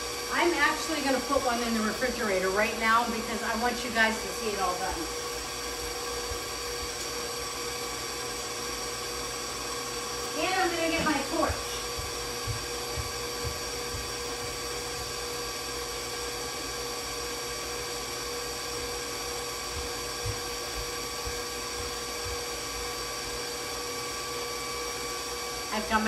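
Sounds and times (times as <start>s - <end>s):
stand mixer motor whining: 0.0s - 26.0s.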